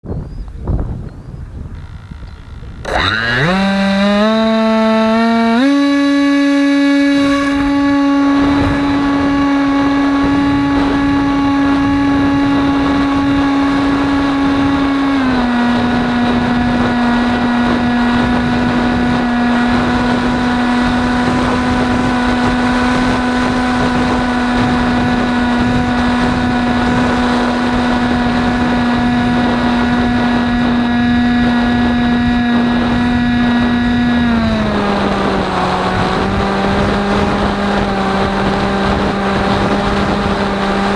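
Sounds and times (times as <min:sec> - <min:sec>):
wind rushing over microphone: 0:00.0 - 0:40.9
rc plane motor whine: 0:01.8 - 0:40.9.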